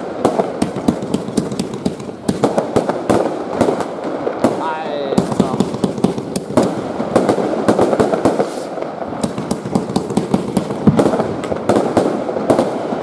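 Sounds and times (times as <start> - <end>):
firework bangs: 0.0 - 13.0
firework crackle: 0.0 - 13.0.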